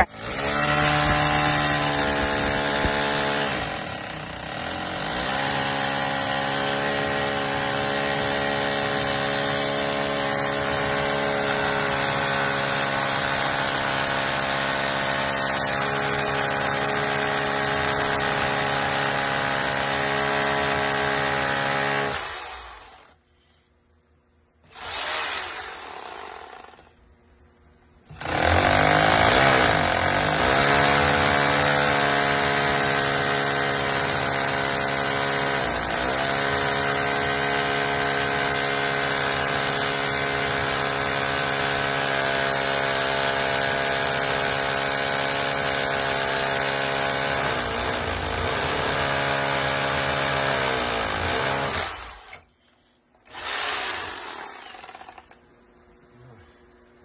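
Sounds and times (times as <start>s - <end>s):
hammer drill boring into concrete: 0.0s - 23.2s, 24.6s - 26.9s, 28.1s - 52.5s, 53.2s - 55.4s.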